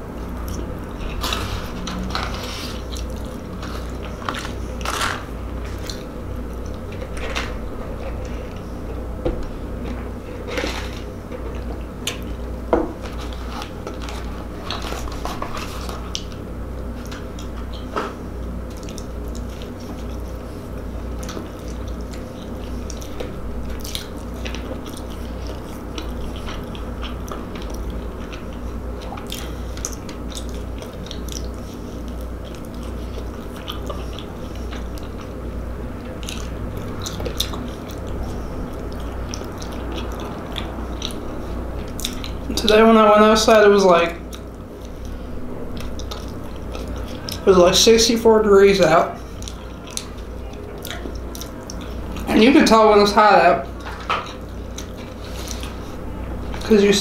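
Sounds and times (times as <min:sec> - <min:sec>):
steady low hum: 0:00.0 - 0:57.0
close chewing with mouth smacks: 0:00.2 - 0:09.0, 0:09.8 - 0:42.8, 0:44.2 - 0:47.5, 0:49.2 - 0:52.3, 0:53.7 - 0:56.7.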